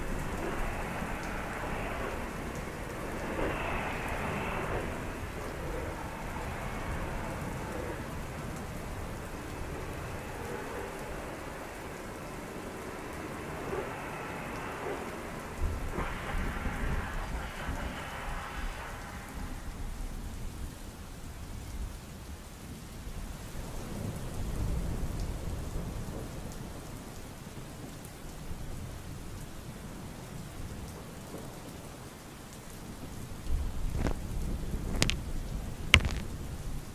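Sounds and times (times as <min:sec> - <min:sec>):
heavy rain: 0:00.0 - 0:36.9
thunder rumbles: 0:00.0 - 0:36.9.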